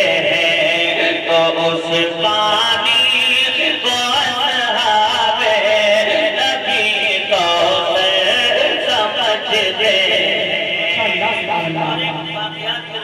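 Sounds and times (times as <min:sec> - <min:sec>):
man singing ornamented melody: 0:00.0 - 0:13.0.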